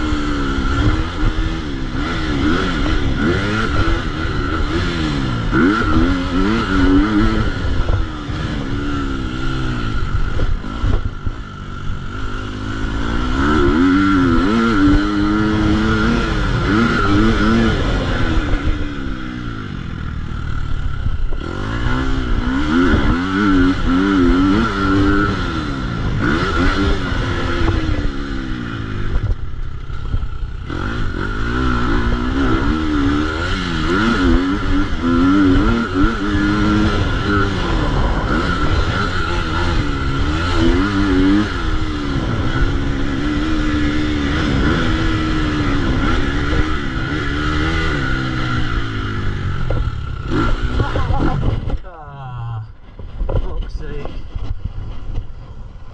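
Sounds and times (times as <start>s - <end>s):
motocross engine revving: 0.0s - 55.4s.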